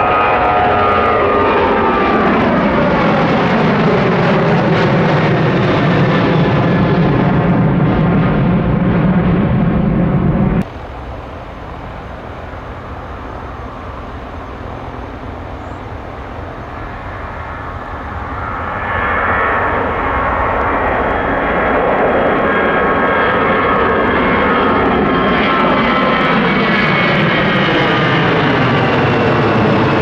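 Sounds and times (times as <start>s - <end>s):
airliner engines with rising whine: 0.0s - 30.0s
low engine sound: 0.0s - 30.0s.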